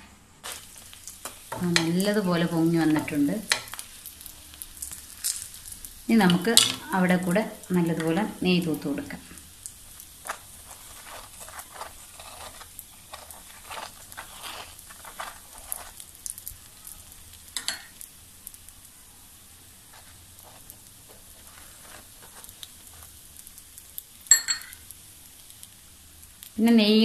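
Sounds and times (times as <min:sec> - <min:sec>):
ghee sizzling on hot pan: 0:00.0 - 0:27.0.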